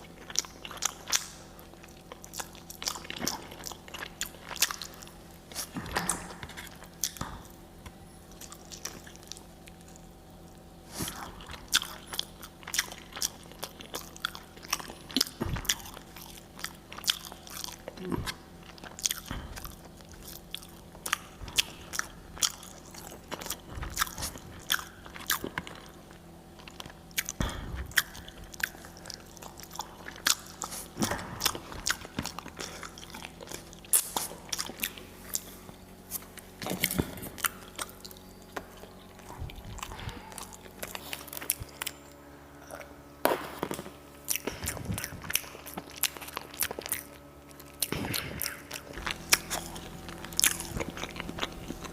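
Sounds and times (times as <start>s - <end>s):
crunching and chewing: 0.0s - 51.9s
faint steady hum: 0.0s - 51.9s.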